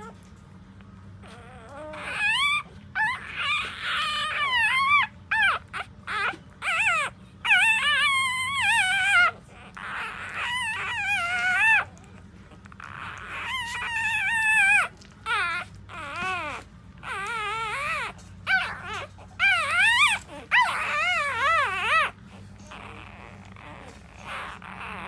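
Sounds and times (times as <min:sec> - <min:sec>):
newborn puppies crying: 0:01.2 - 0:25.0.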